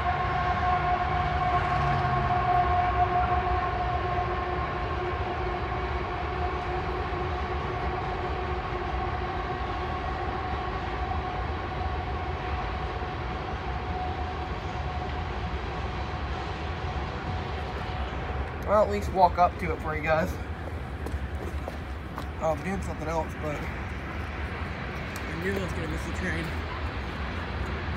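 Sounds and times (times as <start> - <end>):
train cars rumbling on rails: 0.0 - 27.9.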